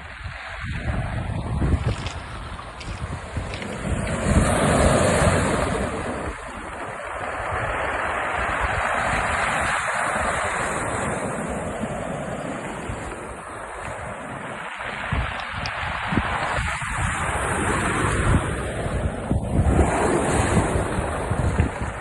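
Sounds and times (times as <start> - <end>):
sea waves breaking on beach: 0.0 - 22.0
wind buffeting microphone: 0.0 - 22.0.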